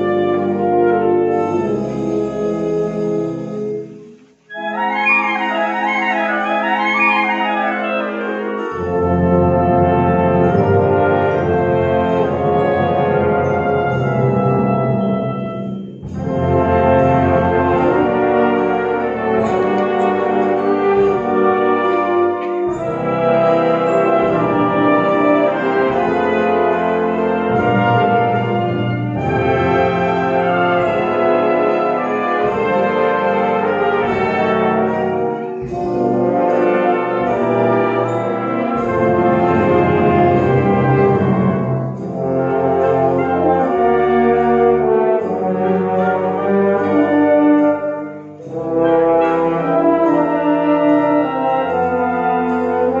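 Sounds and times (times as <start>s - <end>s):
wind band playing: 0.0s - 53.0s.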